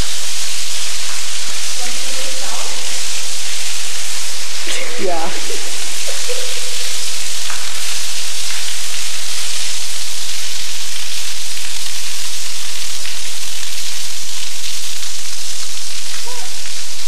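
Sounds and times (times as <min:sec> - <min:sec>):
rushing water hiss: 0:00.0 - 0:17.0.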